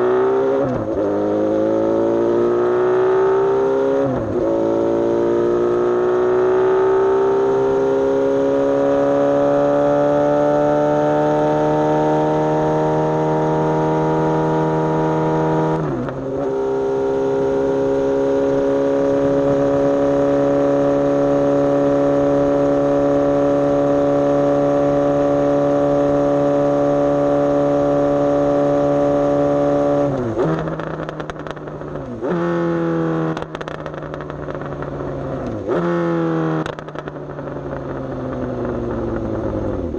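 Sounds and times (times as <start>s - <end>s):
motorcycle engine running: 4.2s - 39.9s.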